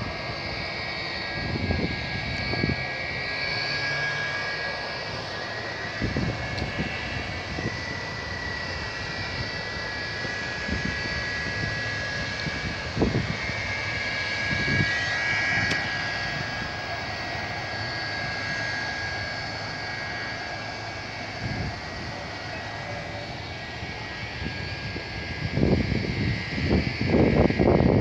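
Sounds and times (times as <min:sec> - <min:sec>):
wind buffeting microphone: 0:00.0 - 0:03.3, 0:05.8 - 0:17.8, 0:20.8 - 0:28.0
jet engines whining: 0:00.0 - 0:28.0.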